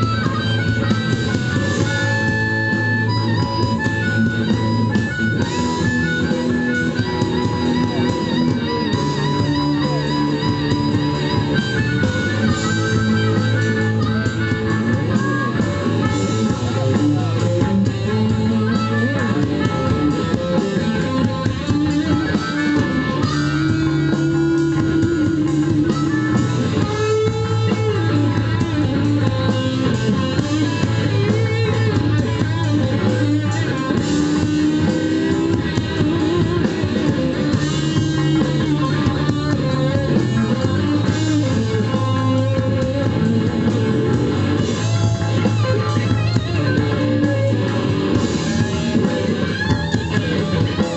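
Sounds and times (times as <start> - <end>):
bass guitar: 0.0 - 50.9
drum kit: 0.0 - 50.9
electric guitar solo: 0.0 - 50.9.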